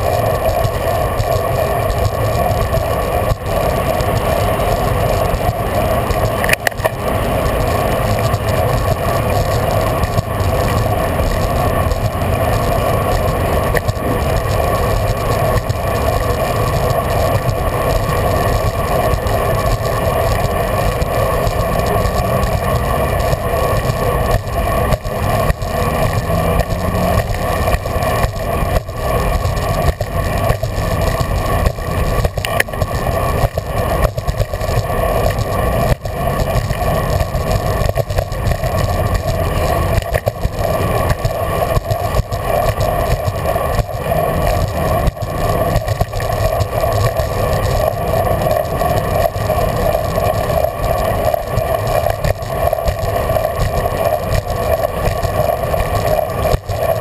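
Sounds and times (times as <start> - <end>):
bicycle road and wind noise: 0.0 - 57.0.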